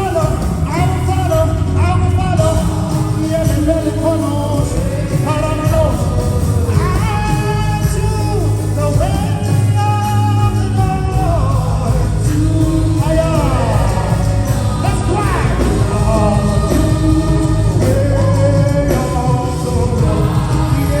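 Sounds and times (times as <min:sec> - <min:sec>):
band with heavy bass: 0:00.0 - 0:21.0.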